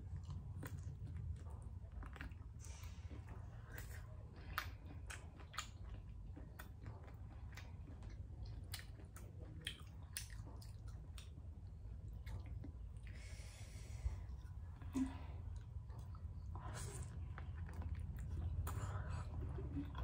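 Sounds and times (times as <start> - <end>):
person chewing: 0.0 - 20.0
steady low hum: 0.0 - 20.0.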